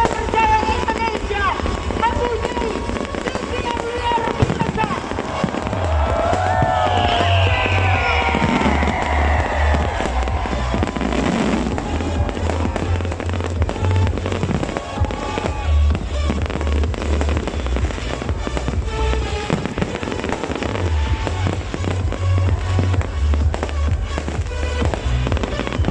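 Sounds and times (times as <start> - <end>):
fireworks bangs and crackles: 0.0 - 25.9
loud music with pulsing bass: 0.0 - 25.9.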